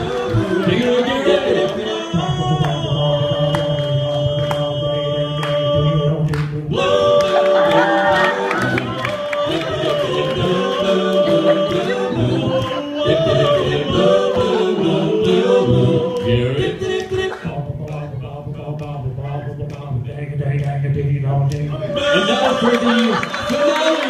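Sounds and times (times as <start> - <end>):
male a cappella harmony singing: 0.0 - 24.0.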